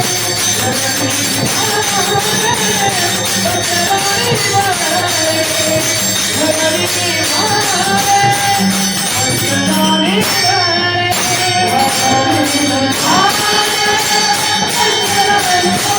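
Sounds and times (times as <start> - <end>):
jingling metal percussion: 0.0 - 15.9
person singing devotional song: 0.0 - 15.9.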